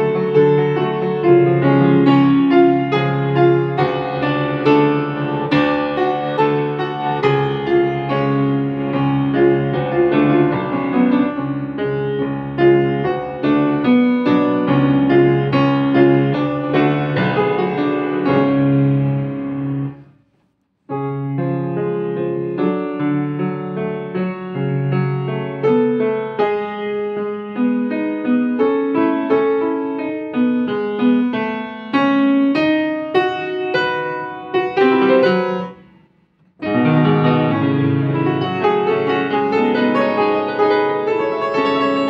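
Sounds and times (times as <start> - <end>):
solo piano playing: 0.0 - 20.2, 20.9 - 42.0.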